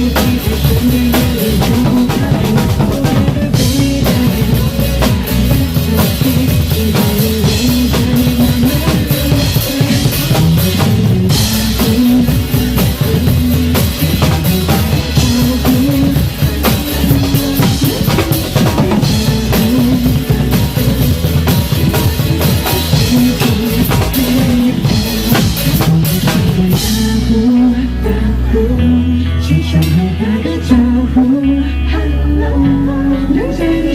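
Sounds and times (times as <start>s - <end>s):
drum kit played fast: 0.0s - 27.8s
recorded music with bass line: 0.0s - 33.9s.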